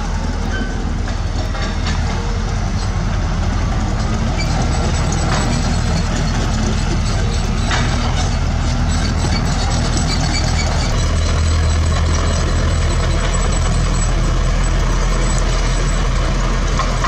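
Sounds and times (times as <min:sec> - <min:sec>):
diesel construction machinery running: 0:00.0 - 0:17.0.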